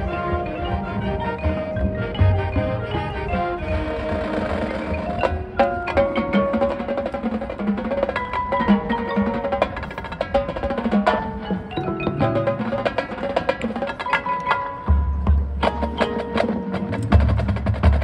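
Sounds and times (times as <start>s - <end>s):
held wind chords: 0.0s - 18.0s
mallet percussion: 0.0s - 18.0s
marching band playing: 0.0s - 18.0s.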